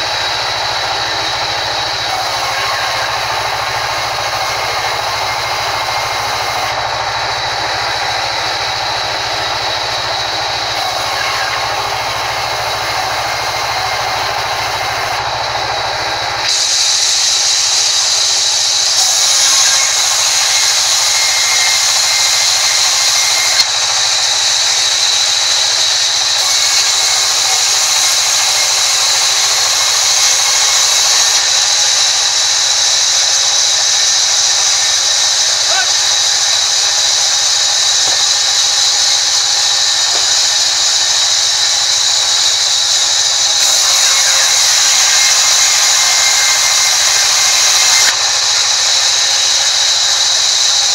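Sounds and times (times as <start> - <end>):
band saw whining through wood: 0.0 - 50.9.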